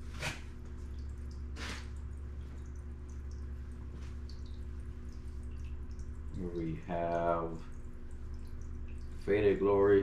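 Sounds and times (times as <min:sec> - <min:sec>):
aquarium filter trickling water: 0:00.0 - 0:10.0
small water drips: 0:00.0 - 0:10.0
steady low hum: 0:00.0 - 0:10.0.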